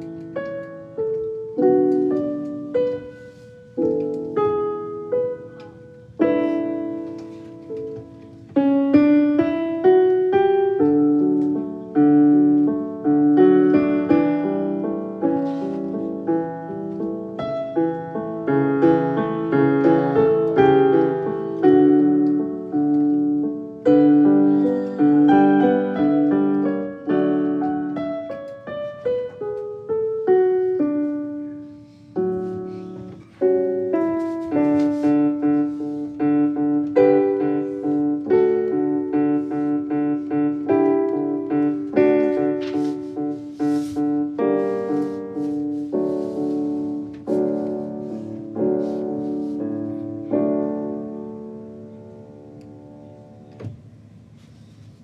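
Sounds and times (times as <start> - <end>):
solo piano music: 0.0 - 55.0.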